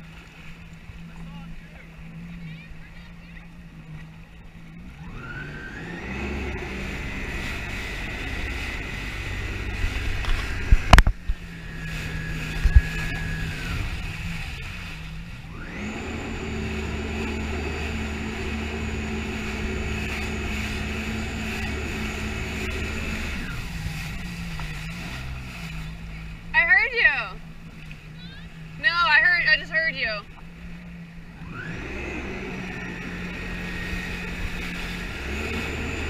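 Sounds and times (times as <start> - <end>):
watercraft engine whine: 0.0 - 36.0.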